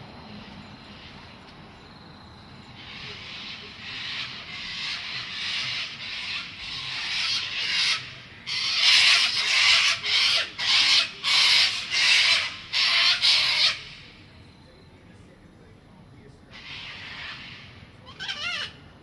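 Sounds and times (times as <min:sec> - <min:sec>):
birds screeching: 0:00.1 - 0:15.0, 0:16.2 - 0:19.0.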